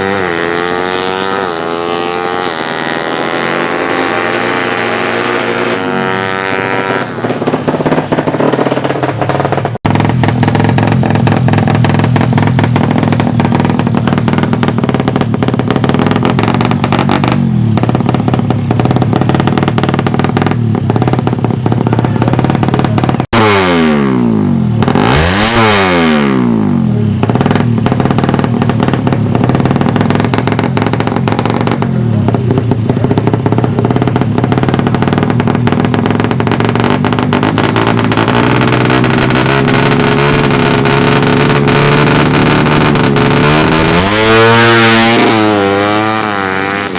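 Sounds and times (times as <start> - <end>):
motorcycle engines revving hard: 0.0 - 46.9.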